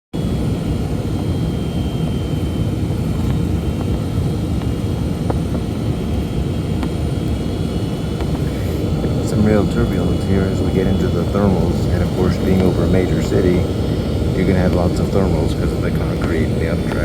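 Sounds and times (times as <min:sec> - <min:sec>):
jet engine and airflow rumble: 0:00.2 - 0:17.0.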